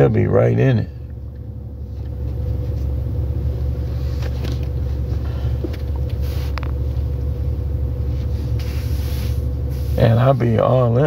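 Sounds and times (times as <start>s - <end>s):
faint constant hum: 0.0s - 11.0s
steady low rumble: 0.0s - 11.0s.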